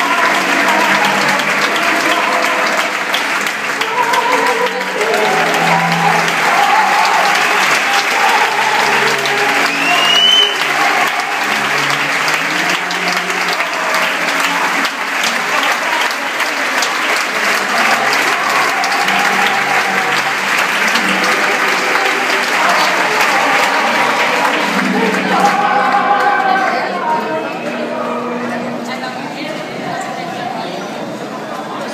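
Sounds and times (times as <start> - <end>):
audience applauding: 0.0 - 28.3.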